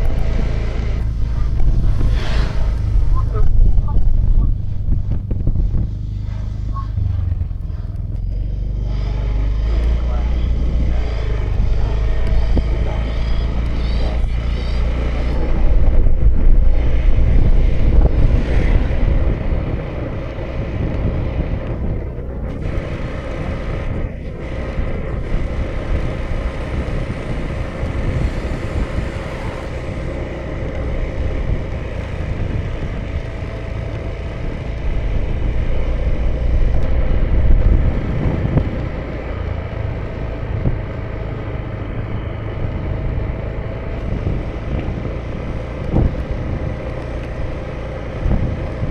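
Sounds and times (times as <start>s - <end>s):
faint steady whine: 0.0s - 48.9s
scooter engine cruising: 0.0s - 48.9s
wind rumble on microphone: 0.0s - 48.9s.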